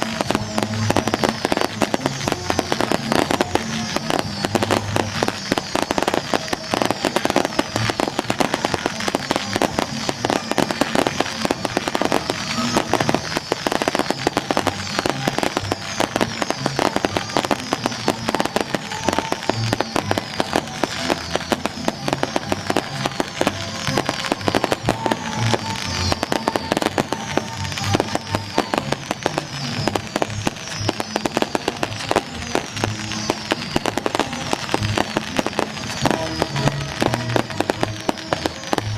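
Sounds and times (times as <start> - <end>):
firecrackers crackling: 0.0 - 38.9
music playing: 0.0 - 38.9.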